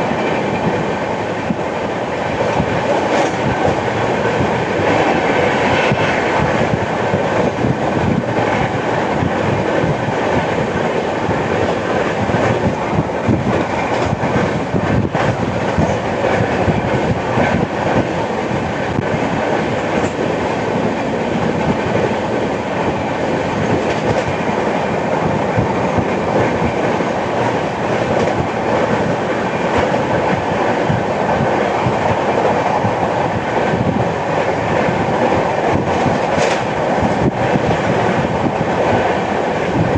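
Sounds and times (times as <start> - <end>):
clickety-clack of train wheels: 0.0 - 39.9
train wheels on rails: 0.0 - 39.9.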